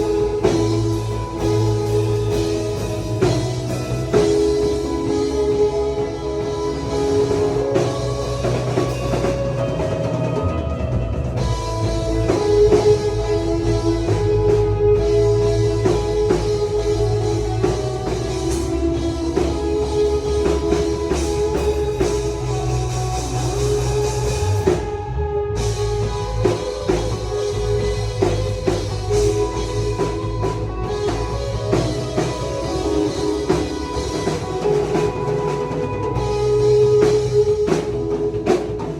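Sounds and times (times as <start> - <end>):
drum kit: 0.0 - 38.9
guitar playing rock groove: 0.0 - 38.9.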